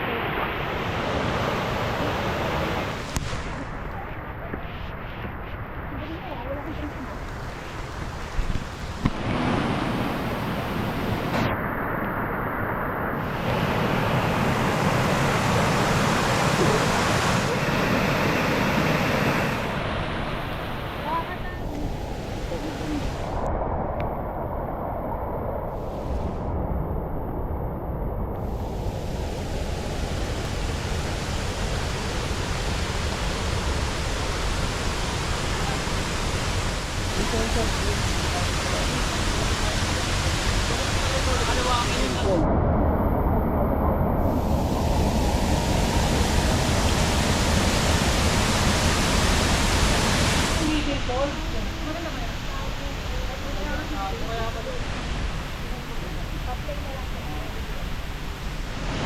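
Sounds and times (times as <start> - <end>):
waterfall rushing: 0.0 - 3.9, 6.8 - 11.7, 12.4 - 23.4, 28.4 - 42.4, 43.9 - 59.0.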